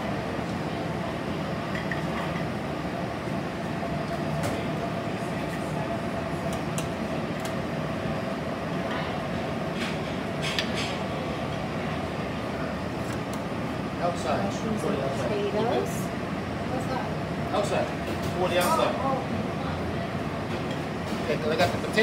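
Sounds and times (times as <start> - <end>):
ventilation hum: 0.0 - 22.0.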